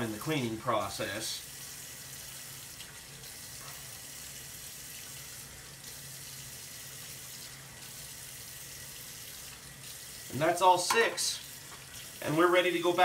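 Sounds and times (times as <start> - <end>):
faucet water running into sink: 0.0 - 13.0.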